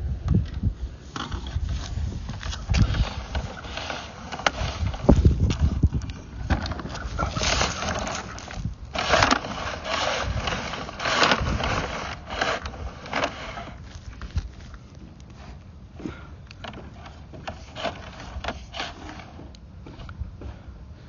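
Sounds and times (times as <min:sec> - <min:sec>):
camera scraping inside drain pipe: 0:01.1 - 0:15.6, 0:16.6 - 0:19.6.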